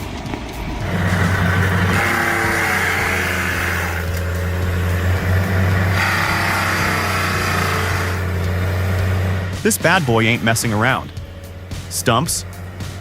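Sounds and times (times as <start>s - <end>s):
heavy machine engine droning: 0.0s - 13.0s
hiss: 0.0s - 13.0s.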